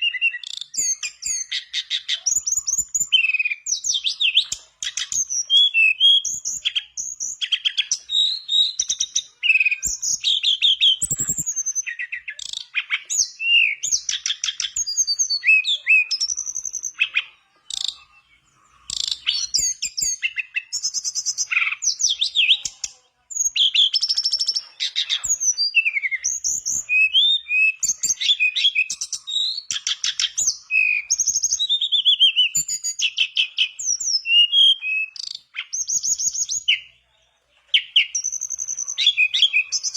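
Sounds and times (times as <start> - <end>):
bird song with whistles and trills: 0.0 - 39.9.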